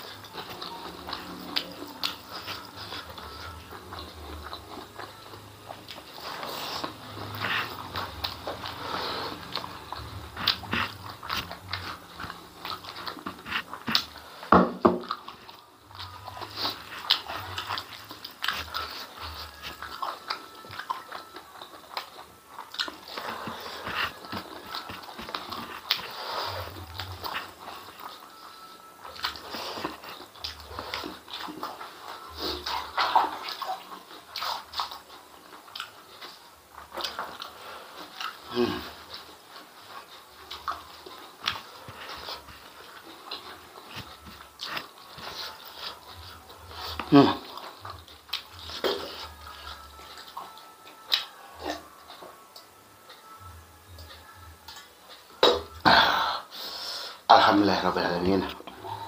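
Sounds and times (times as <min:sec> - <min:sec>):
chewing rice: 0:00.0 - 0:59.0.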